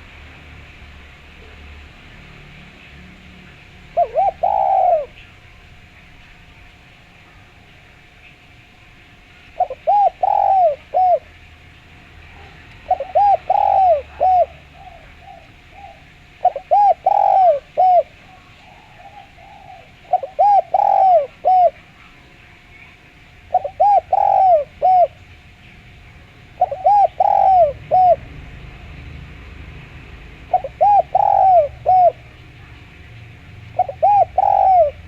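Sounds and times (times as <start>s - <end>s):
dove cooing: 3.2s - 6.6s, 9.4s - 25.8s, 26.4s - 35.0s.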